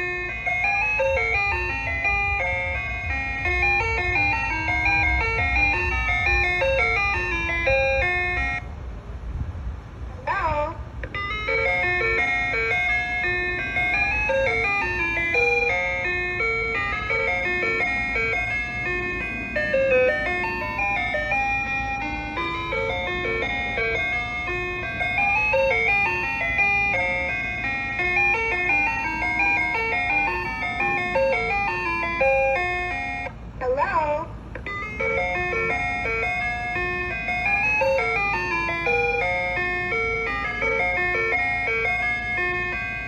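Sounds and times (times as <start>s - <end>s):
ice cream truck chime tune: 0.0s - 8.9s, 10.3s - 43.0s.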